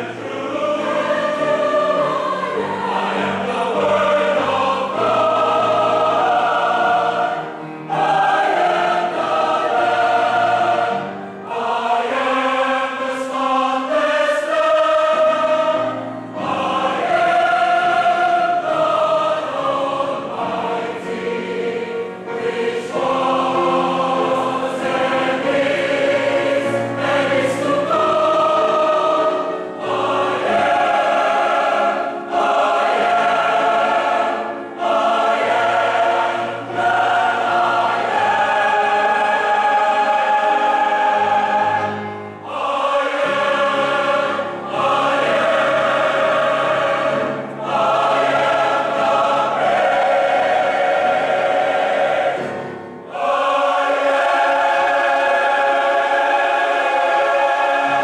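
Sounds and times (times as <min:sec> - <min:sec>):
choir singing in parts: 0:00.0 - 0:58.0.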